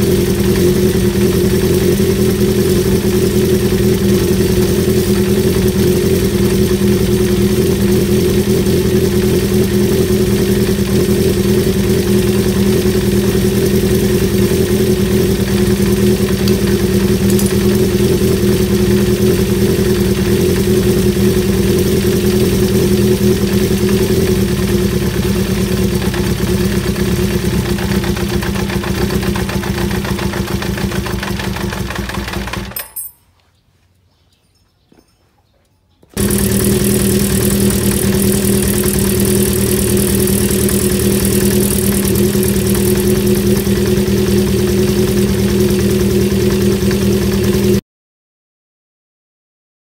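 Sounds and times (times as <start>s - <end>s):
motorcycle engine idling: 0.0s - 33.2s, 36.1s - 47.8s.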